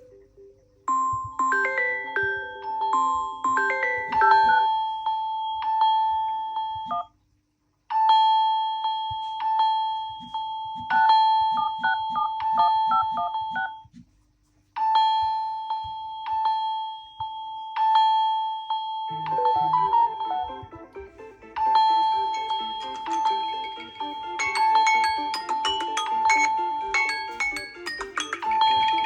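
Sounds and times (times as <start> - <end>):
different phone tone: 0.0 - 7.1, 8.1 - 13.9, 15.0 - 20.7, 21.7 - 29.0
bell-like phone ringtone: 0.9 - 7.1, 7.9 - 13.8, 14.8 - 20.7, 21.6 - 29.0.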